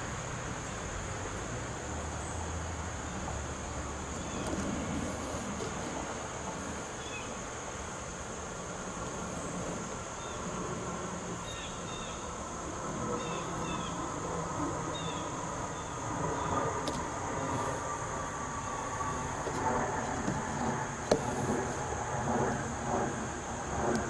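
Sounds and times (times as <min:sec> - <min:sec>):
distant vehicle rumble: 0:00.0 - 0:24.0
steady high-pitched hum: 0:00.0 - 0:24.0.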